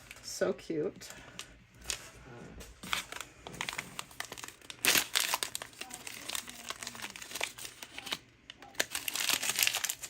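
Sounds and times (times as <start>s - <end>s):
plastic wrapper crinkling and tearing: 0.0s - 10.0s.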